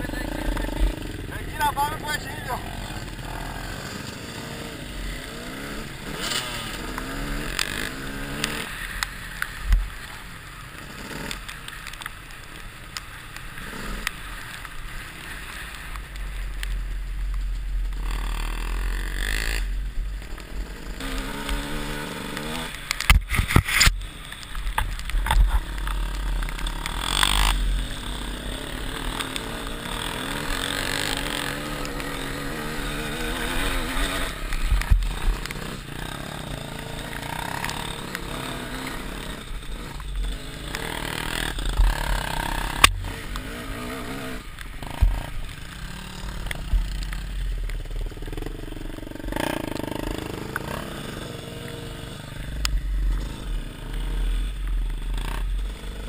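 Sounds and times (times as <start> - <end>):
dirt bike engine revving: 0.0 - 9.7, 10.6 - 12.0, 13.5 - 56.0.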